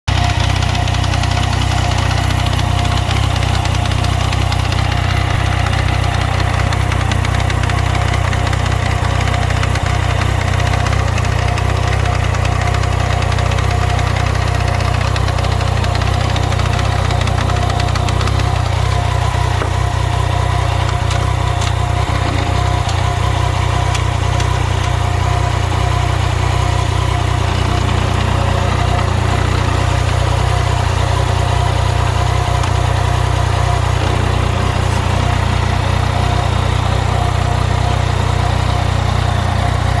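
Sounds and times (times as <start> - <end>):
motorcycle engine idling: 0.1 - 40.0.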